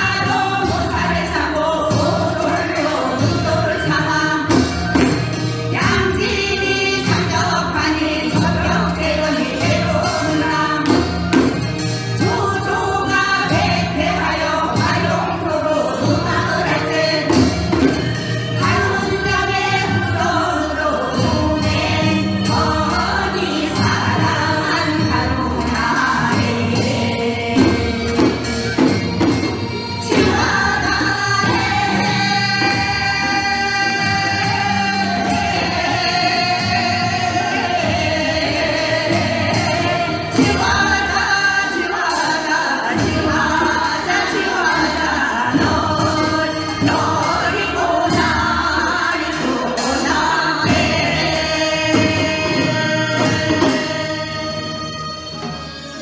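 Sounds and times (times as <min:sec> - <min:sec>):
folk song singing: 0:00.0 - 0:56.0
instrumental accompaniment: 0:00.0 - 0:56.0.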